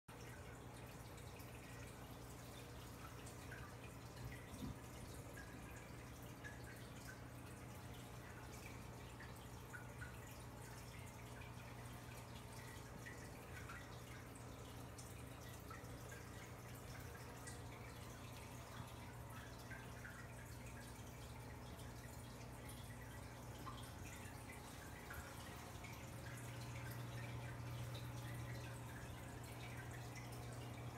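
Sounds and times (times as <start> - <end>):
aquarium filter water trickling: 0.1 - 30.9.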